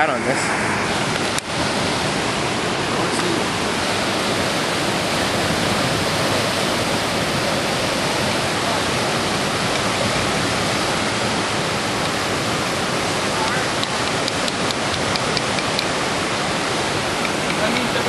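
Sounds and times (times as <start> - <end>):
rushing river water: 0.0 - 18.0.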